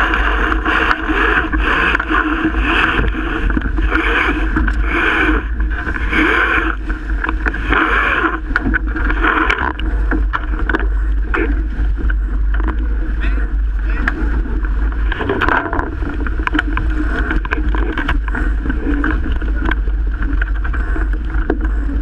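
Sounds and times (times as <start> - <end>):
deep rumble: 0.0 - 22.0
water rushing along hull: 0.0 - 22.0
wind buffeting microphone: 0.0 - 22.0.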